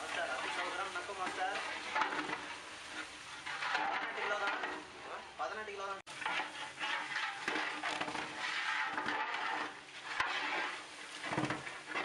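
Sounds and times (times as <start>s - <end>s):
metal ladle scraping and clinking: 0.0s - 5.4s, 6.1s - 12.0s
food sizzling and bubbling in pot: 0.0s - 12.0s.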